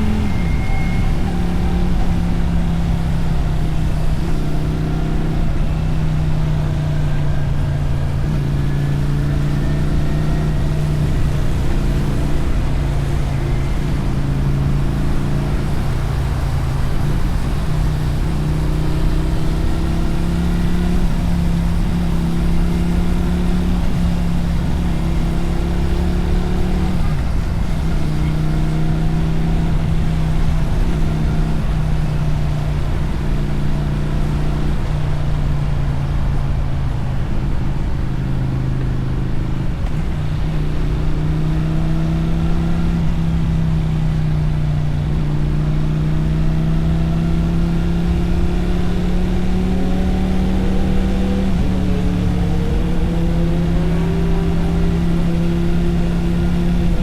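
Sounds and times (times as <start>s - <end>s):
motorcycle engine and exhaust: 0.0s - 57.0s
wind and road rumble: 0.0s - 57.0s.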